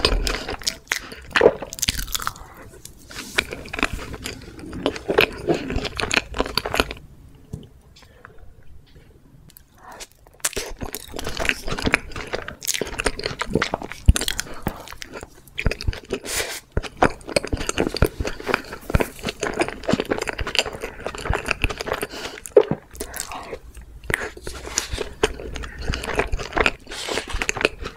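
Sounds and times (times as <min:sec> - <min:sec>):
chewing cake: 0:00.0 - 0:07.0, 0:09.6 - 0:27.9.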